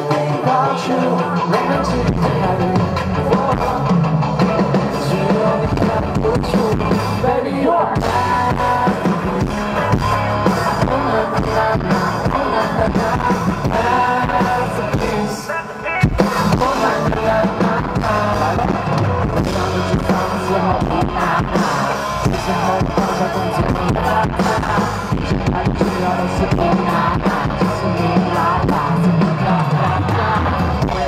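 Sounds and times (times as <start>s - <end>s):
live pop-rock band: 0.0s - 31.0s
man singing: 0.0s - 31.0s.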